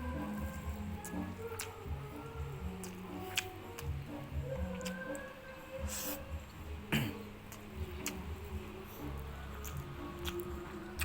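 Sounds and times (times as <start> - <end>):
close eating noises: 0.0 - 11.0.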